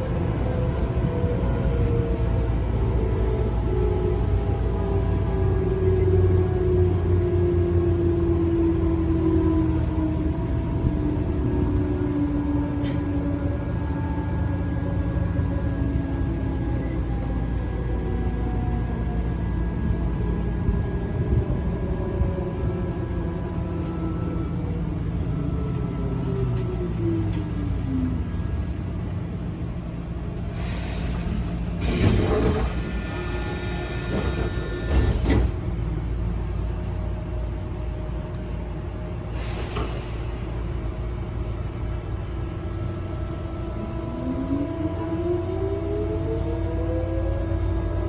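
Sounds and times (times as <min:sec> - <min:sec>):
train rumbling on rails: 0:00.0 - 0:48.0.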